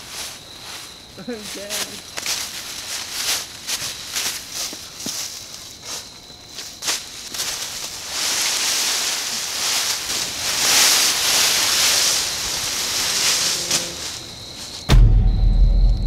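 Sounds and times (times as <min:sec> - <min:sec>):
dry leaves rustling and crunching: 0:00.0 - 0:14.9.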